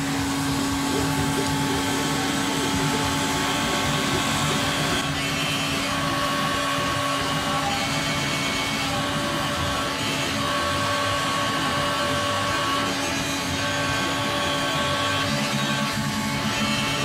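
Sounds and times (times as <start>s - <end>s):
heat gun blowing: 0.0s - 17.0s.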